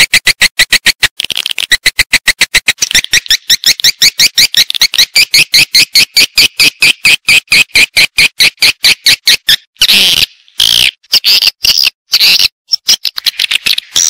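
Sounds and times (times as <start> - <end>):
rapid bird chirps: 0.0 - 14.0.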